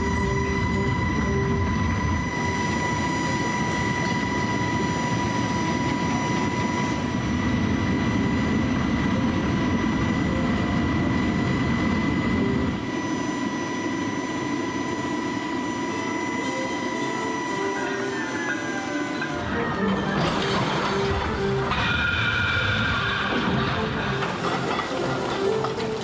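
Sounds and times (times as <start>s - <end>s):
steady high tone: 0.0s - 26.0s.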